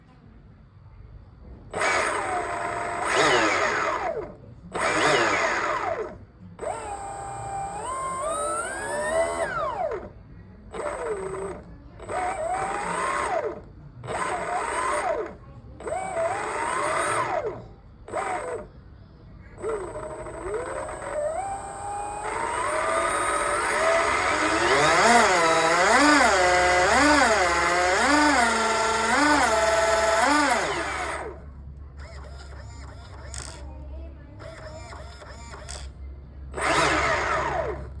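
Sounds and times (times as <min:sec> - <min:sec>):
electric motor whining: 0:01.8 - 0:10.1, 0:10.7 - 0:18.7, 0:19.6 - 0:31.4, 0:34.4 - 0:35.9, 0:36.6 - 0:38.0.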